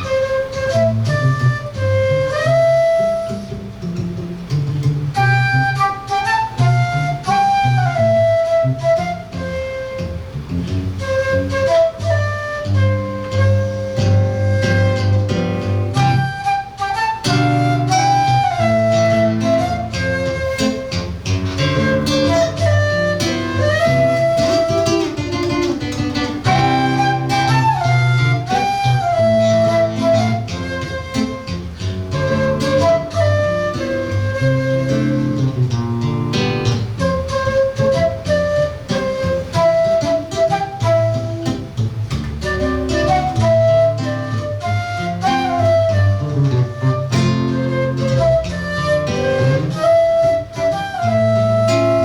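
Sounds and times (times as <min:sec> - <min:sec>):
flute melody: 0:00.0 - 0:52.0
plucked acoustic guitar: 0:00.0 - 0:52.0.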